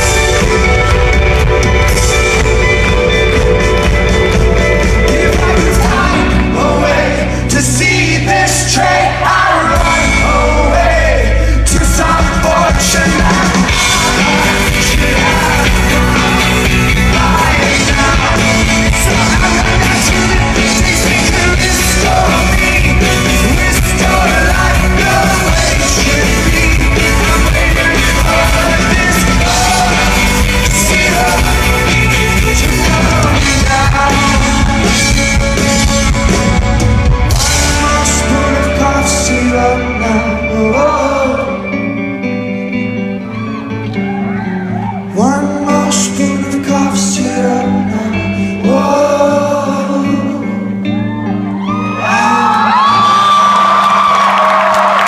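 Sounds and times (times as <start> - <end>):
live rock band: 0.0 - 55.0
person singing: 0.0 - 55.0.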